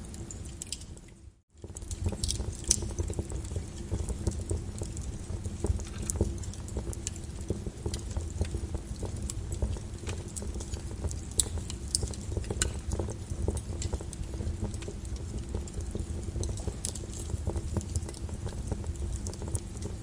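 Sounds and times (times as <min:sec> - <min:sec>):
lava crackling and popping: 0:00.0 - 0:20.0.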